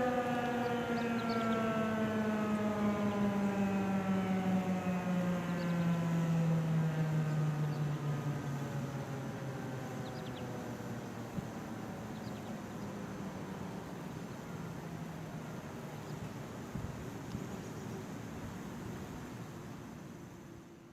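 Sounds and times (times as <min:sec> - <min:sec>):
distant siren winding down: 0:00.0 - 0:17.2.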